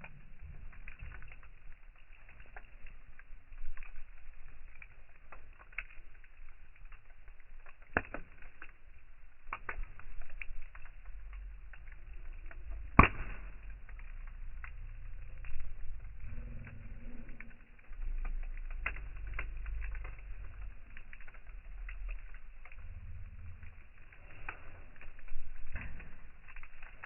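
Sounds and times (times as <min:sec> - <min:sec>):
campfire crackling and popping: 0:00.0 - 0:27.0
low steady rumble: 0:00.0 - 0:27.0.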